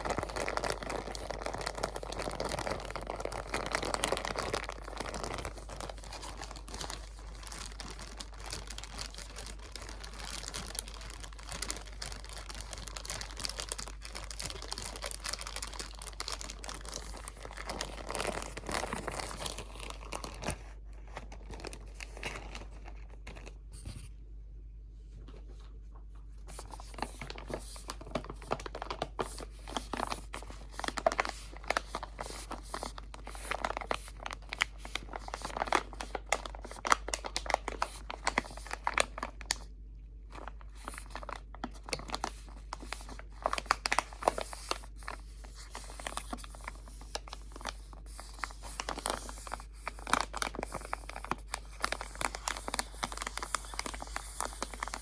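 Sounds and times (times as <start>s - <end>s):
crinkly material crumpling: 0.0s - 24.2s, 25.0s - 55.0s.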